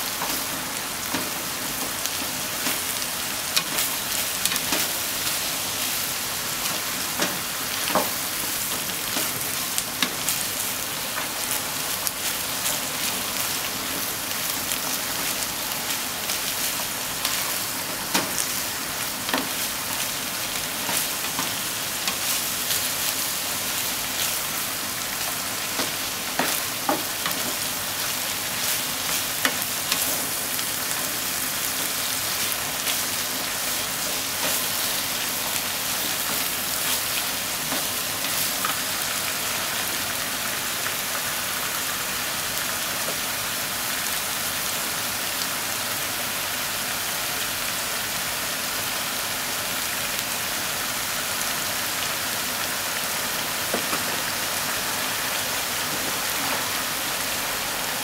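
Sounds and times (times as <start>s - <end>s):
meat and onion sizzling: 0.0s - 58.0s.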